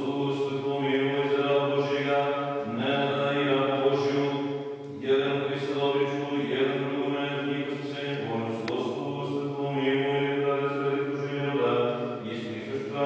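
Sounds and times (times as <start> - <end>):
person chanting long held notes: 0.0 - 13.0.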